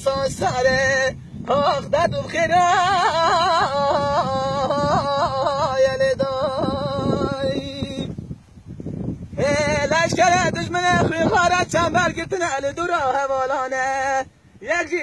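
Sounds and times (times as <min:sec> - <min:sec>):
man singing with trills: 0:00.0 - 0:08.2, 0:09.2 - 0:15.0.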